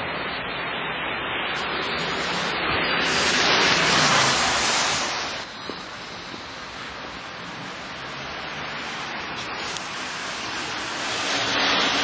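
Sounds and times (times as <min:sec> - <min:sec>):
rain hiss: 0:00.0 - 0:12.0
wet street noise: 0:00.0 - 0:12.0.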